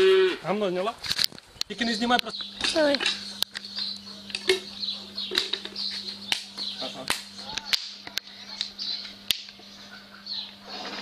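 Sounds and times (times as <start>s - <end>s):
faint steady hum: 0.0s - 11.0s
small birds chirping: 0.6s - 11.0s.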